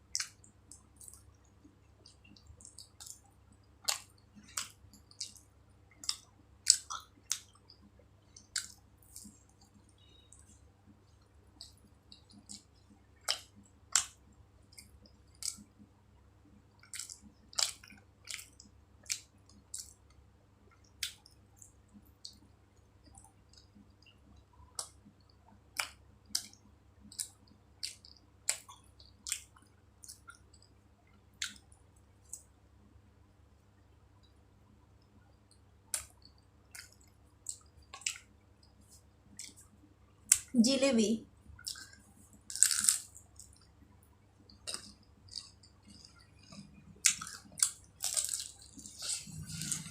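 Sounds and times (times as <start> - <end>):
chewing and wet mouth sounds: 0.0 - 32.6, 33.7 - 40.6, 41.4 - 49.9
faint low hum: 0.0 - 49.9.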